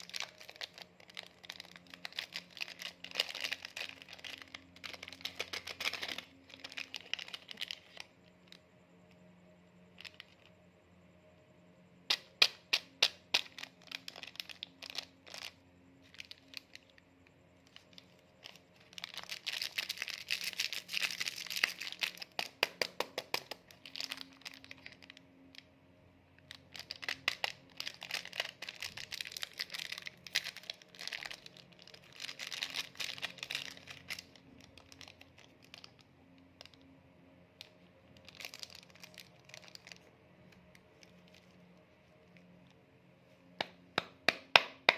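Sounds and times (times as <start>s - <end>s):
plastic packets crinkling and tearing: 0.0s - 8.6s, 9.9s - 10.5s, 12.1s - 17.0s, 17.6s - 25.7s, 26.4s - 37.0s, 37.6s - 42.8s.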